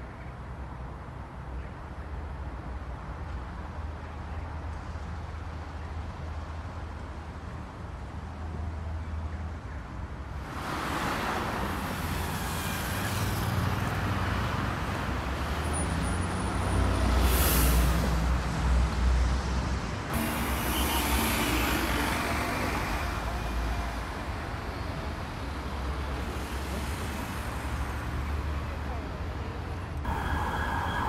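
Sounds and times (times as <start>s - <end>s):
city road traffic: 0.0s - 31.0s.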